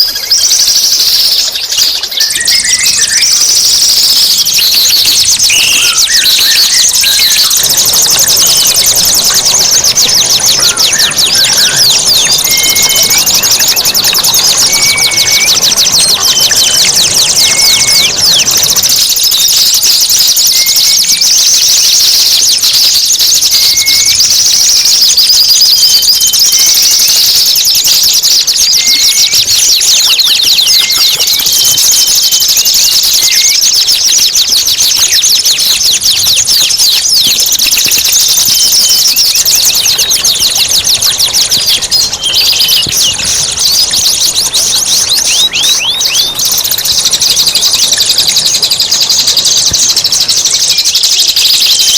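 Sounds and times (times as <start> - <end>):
short lower bird chirps: 0.0 - 51.9
songbird chattering trill: 0.0 - 51.9.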